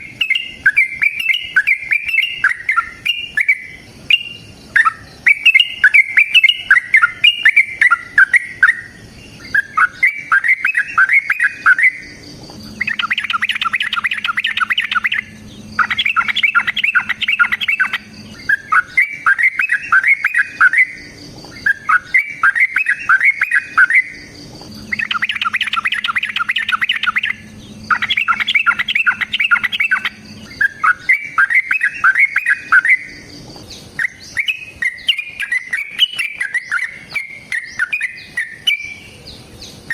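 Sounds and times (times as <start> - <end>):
bird dense fast trill: 0.0 - 39.9
bulbul singing bubbling chirps: 0.0 - 39.9.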